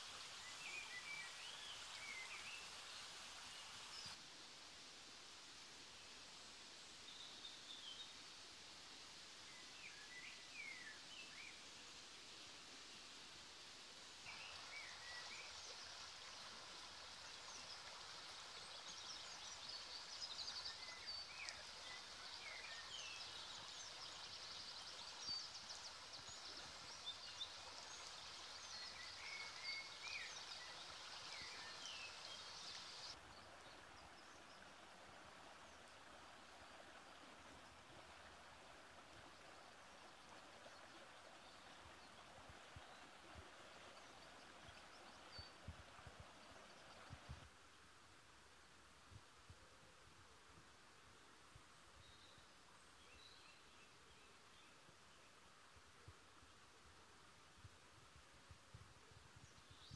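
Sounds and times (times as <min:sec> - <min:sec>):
running stream water: 0:00.0 - 0:59.9.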